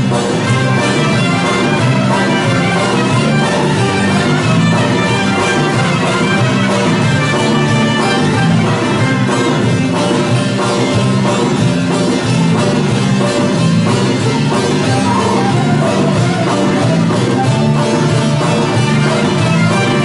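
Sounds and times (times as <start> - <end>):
folk ensemble with plucked lutes: 0.0 - 20.0.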